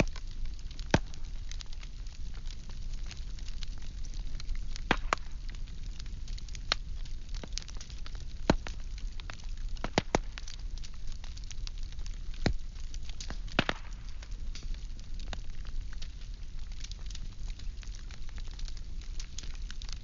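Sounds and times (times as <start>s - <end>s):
firewood crackling and popping: 0.0s - 20.0s
low rumble of fire: 0.0s - 20.0s.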